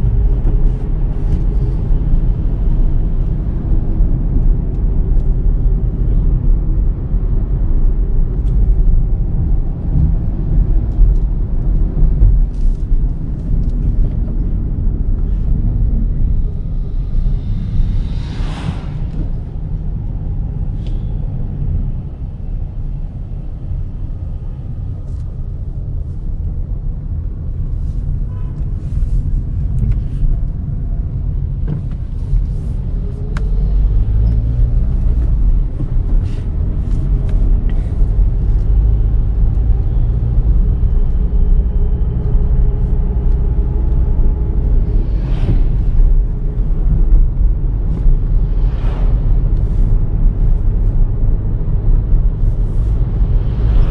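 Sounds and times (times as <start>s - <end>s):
road and tyre rumble: 0.0s - 53.9s.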